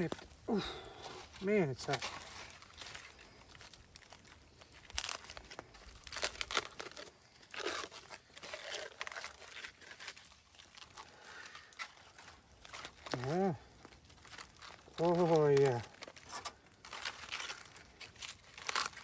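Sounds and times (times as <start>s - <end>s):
aluminium foil crinkling and tearing: 0.0s - 19.0s.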